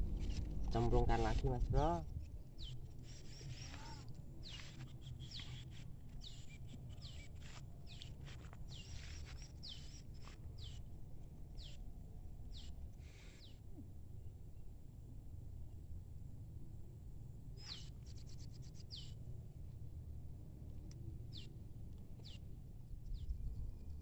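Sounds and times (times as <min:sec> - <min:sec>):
wind rumble on microphone: 0:00.0 - 0:13.0, 0:13.8 - 0:24.0.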